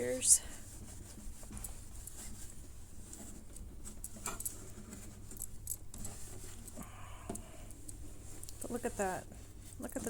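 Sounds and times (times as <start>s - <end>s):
cloth rubbing on wood: 0.0s - 6.8s, 8.0s - 10.0s.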